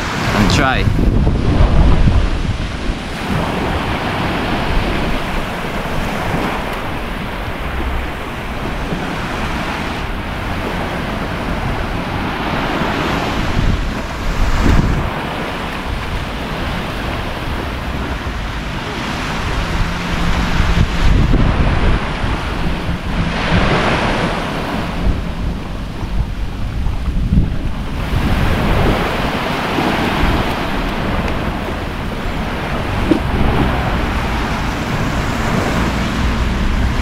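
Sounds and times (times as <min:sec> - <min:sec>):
small waves washing onto beach: 0:00.0 - 0:37.0
wind buffeting microphone: 0:00.0 - 0:37.0.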